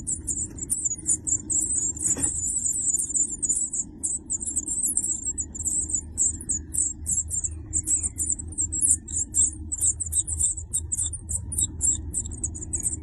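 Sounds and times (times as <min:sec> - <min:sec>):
nestlings cheeping: 0:00.0 - 0:13.0.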